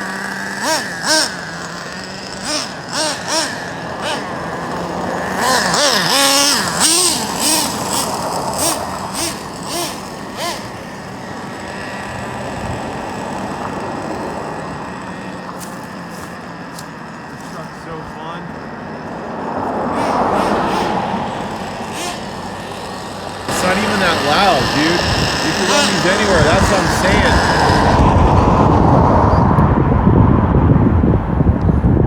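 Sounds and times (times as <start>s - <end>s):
model truck engine revving: 0.0s - 30.6s.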